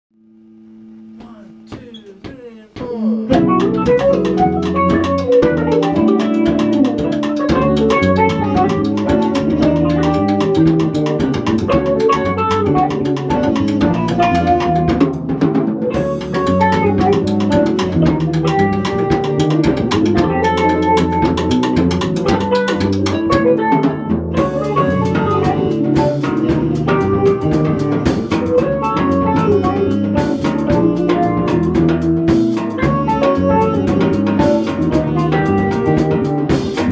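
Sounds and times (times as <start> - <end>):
bass guitar: 0.2 - 36.9
electric guitar: 0.2 - 36.9
drum kit: 0.6 - 36.9
saxophone: 2.8 - 36.9
synth guitar: 3.0 - 36.9.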